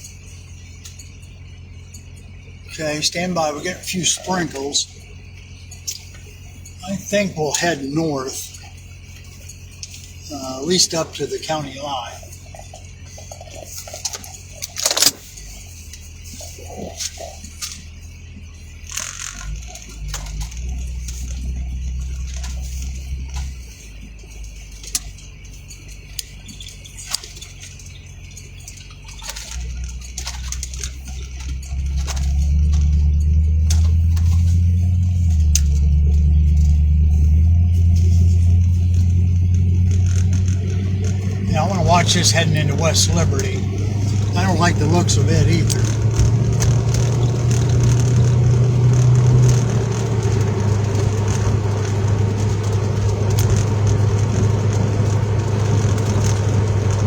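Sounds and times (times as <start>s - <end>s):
low engine hum: 0.0s - 57.0s
raindrops ticking on vehicle: 0.0s - 57.0s.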